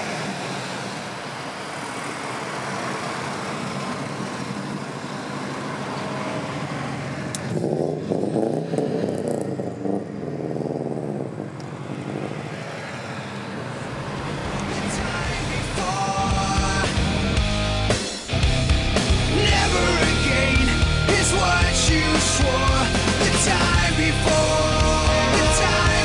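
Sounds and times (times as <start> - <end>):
car engine revving: 0.0 - 26.0
cars driving past: 0.0 - 26.0.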